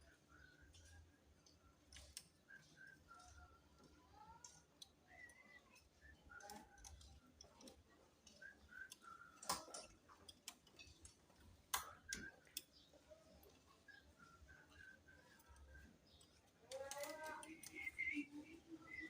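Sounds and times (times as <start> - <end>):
faint clicks and ticks: 0.0 - 19.0.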